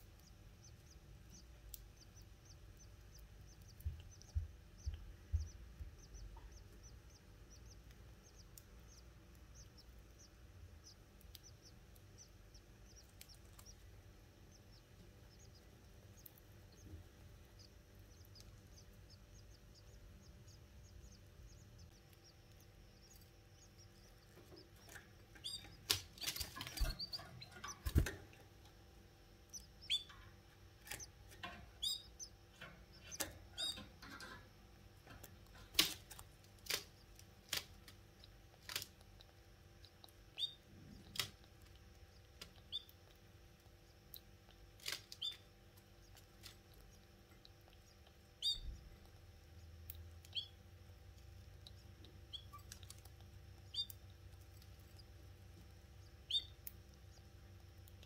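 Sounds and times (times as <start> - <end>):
canaries chirping: 0.0 - 58.0.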